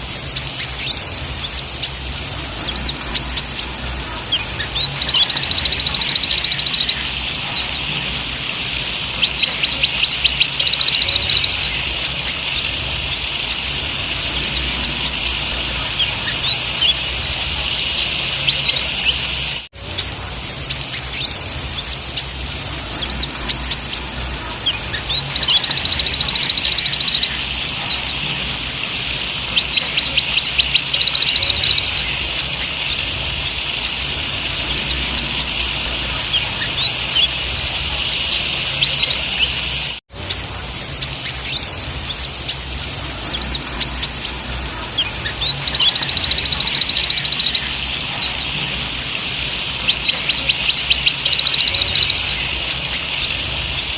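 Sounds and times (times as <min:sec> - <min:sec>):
bird chirps and trills: 0:00.0 - 0:53.9
steady hiss: 0:00.0 - 0:53.9.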